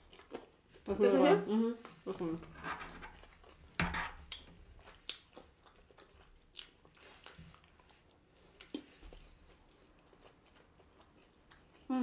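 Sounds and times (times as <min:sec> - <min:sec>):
chewing food: 0:00.0 - 0:00.9, 0:01.8 - 0:12.0.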